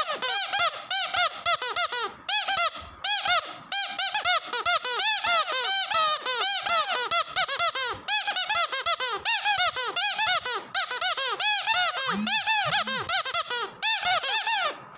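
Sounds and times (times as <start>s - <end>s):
squeaky dog toy squeaking: 0.0s - 14.9s.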